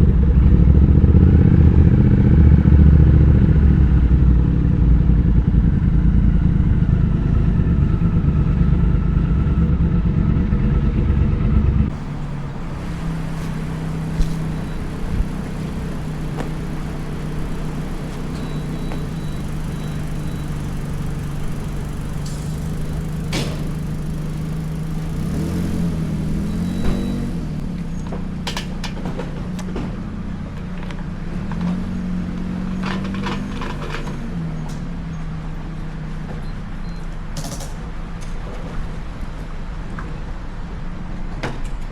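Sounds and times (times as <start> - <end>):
motorcycle engine running hard: 0.0 - 36.8.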